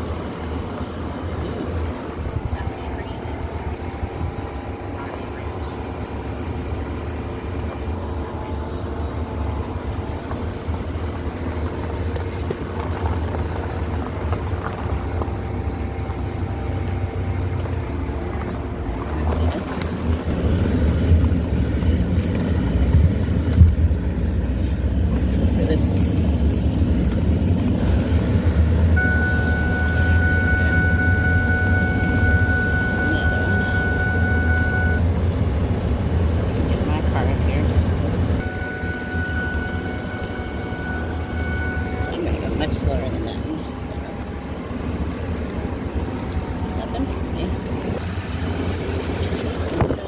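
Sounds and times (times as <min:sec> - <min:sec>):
car engine and tyres rumbling: 0:00.0 - 0:50.0.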